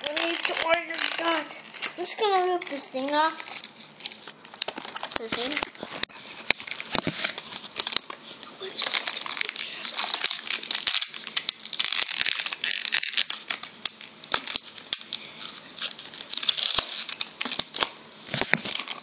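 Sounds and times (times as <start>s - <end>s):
packaging ripping and crinkling: 0.0s - 19.0s.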